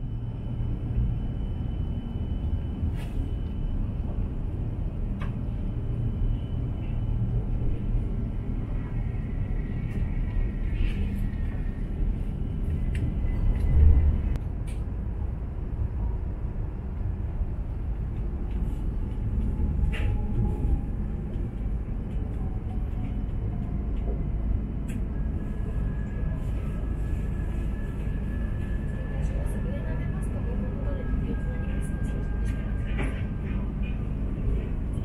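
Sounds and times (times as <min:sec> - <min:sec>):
train carriage rumble: 0:00.0 - 0:35.0.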